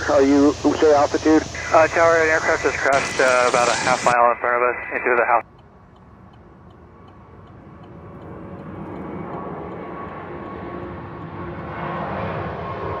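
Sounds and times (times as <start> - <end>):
aircraft engine noise: 0.0 - 13.0
steady whining tones: 0.0 - 13.0.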